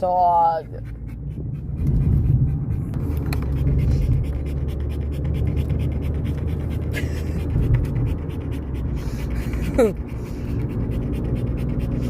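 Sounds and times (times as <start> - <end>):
car cabin rumble: 0.0 - 12.0
dog panting: 0.0 - 12.0.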